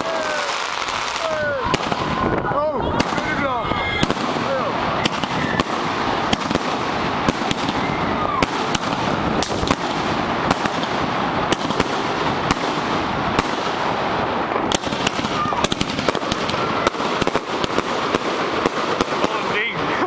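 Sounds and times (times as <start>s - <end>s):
firework bangs: 0.0s - 20.0s
firework crackle: 0.0s - 20.0s.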